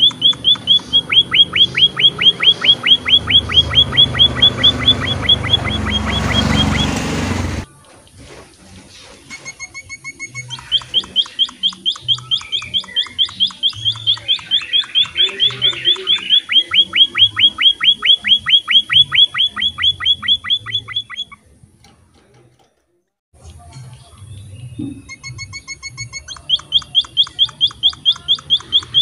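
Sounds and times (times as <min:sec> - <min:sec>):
finch chirping: 0:00.0 - 0:07.6, 0:09.5 - 0:21.5, 0:24.4 - 0:29.0.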